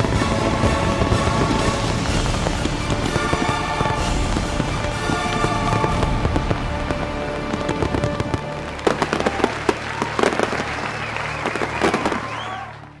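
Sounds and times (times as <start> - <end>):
background music: 0.0 - 13.0
fireworks bursting and crackling: 0.0 - 13.0.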